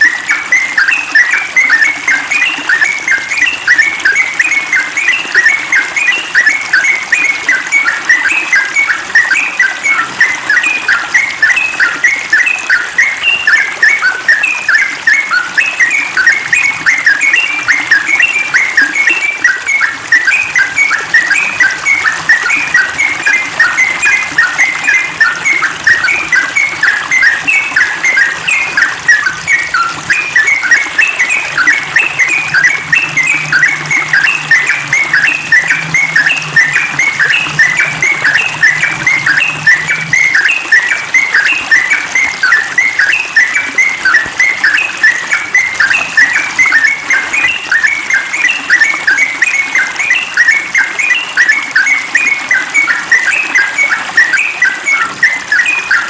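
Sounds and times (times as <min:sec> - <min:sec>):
bird singing rapid bubbly notes: 0:00.0 - 0:56.0.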